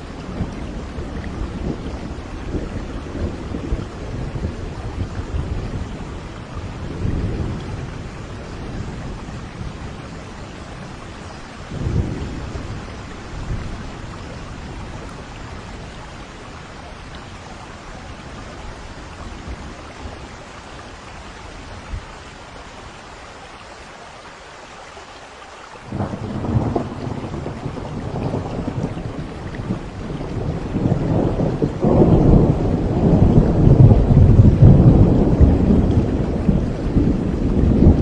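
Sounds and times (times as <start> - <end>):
thunder rumbling: 0.0 - 22.1, 25.9 - 38.0
steady rain: 0.0 - 38.0.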